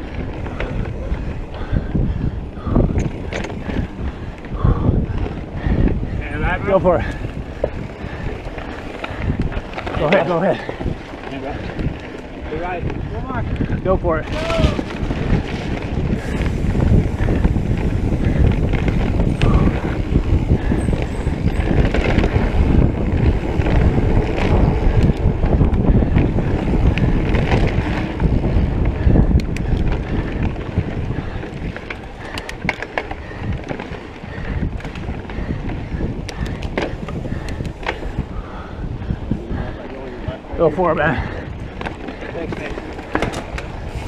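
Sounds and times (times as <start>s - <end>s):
bike clicking and knocking: 0.0s - 39.9s, 40.6s - 44.0s
bike tyres rumbling on dirt: 0.0s - 44.0s
wind buffeting microphone: 0.0s - 44.0s.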